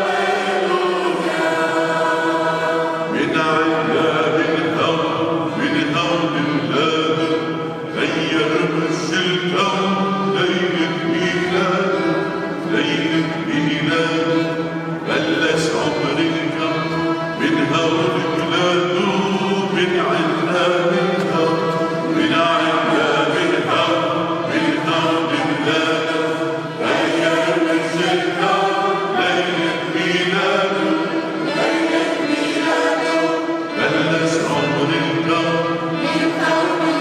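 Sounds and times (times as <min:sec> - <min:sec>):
choir singing a hymn: 0:00.0 - 0:37.0
man singing into microphone: 0:00.0 - 0:37.0
violin: 0:00.0 - 0:37.0.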